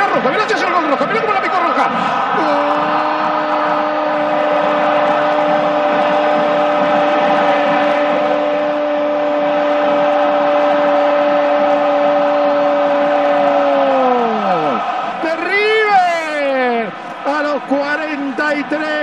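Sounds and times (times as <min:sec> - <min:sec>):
stadium crowd roaring: 0:00.0 - 0:19.0.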